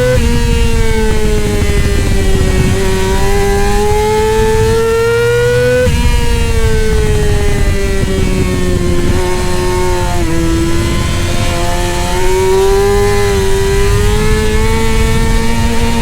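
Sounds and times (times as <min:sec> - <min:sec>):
motorcycle engine at high revs: 0:00.0 - 0:16.0
steady low rush: 0:00.0 - 0:16.0.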